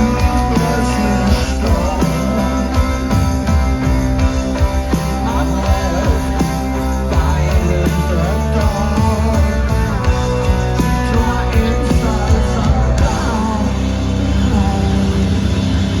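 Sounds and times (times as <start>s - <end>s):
person singing: 0.0s - 15.6s
rock band playing live: 0.0s - 16.0s.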